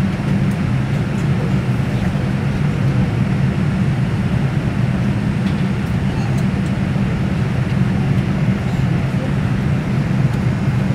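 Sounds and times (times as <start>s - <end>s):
jet engines humming in cabin: 0.0s - 10.9s.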